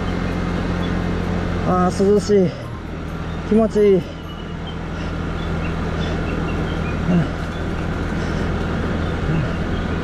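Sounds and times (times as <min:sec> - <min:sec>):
moped engine running: 0:00.0 - 0:10.0
wind and road rushing: 0:00.0 - 0:10.0.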